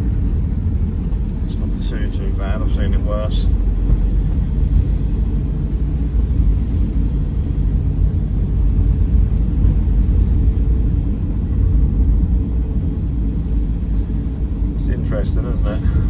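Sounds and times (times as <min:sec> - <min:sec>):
van engine and road noise: 0:00.0 - 0:16.0.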